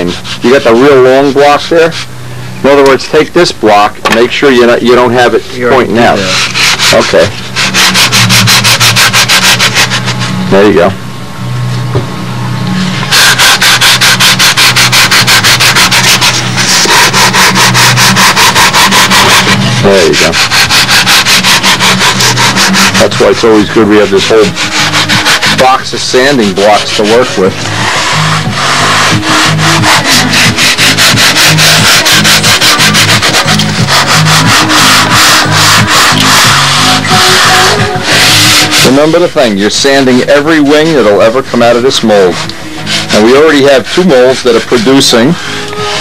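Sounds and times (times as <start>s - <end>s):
sandpaper rubbing back and forth: 0.0s - 2.1s, 4.5s - 10.9s, 12.8s - 46.0s.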